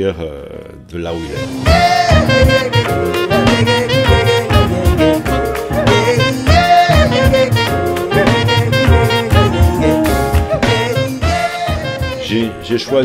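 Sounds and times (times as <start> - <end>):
double bass: 0.7 - 12.2
saxophone melody: 1.1 - 12.6
drums: 1.2 - 12.2
piano: 1.2 - 13.0.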